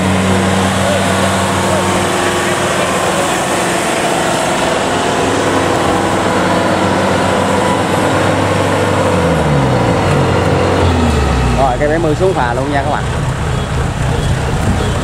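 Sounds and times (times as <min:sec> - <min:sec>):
combine harvester engines running: 0:00.0 - 0:15.0.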